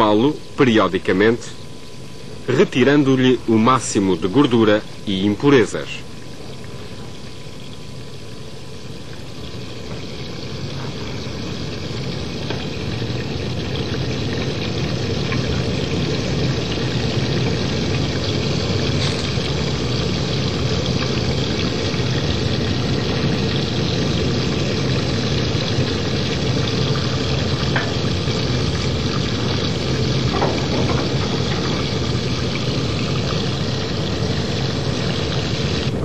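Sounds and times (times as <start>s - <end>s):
stockpot boiling: 0.0s - 36.0s.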